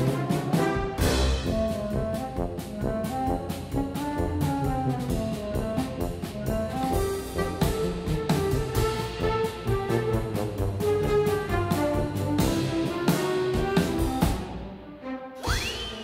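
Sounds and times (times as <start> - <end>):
brass-led orchestral music: 0.0 - 16.0.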